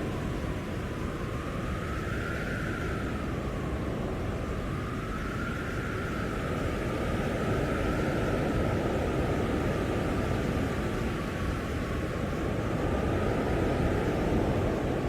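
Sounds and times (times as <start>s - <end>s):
blizzard wind roaring: 0.0s - 15.0s
high wind howl: 0.0s - 15.0s.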